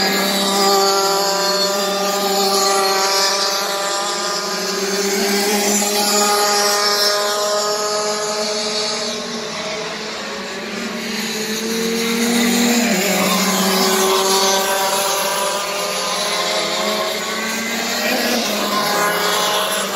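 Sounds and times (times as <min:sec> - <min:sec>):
racing kart engines revving: 0:00.0 - 0:19.9.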